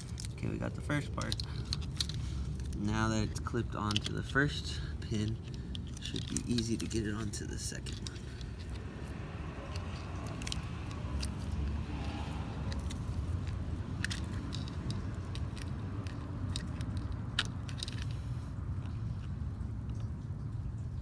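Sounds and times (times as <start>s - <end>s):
small metallic clicks and scrapes: 0.0s - 21.0s.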